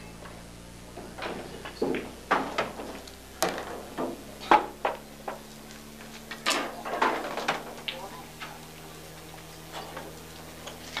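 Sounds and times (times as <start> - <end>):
pool balls knocking and clicking: 0.2 - 10.7.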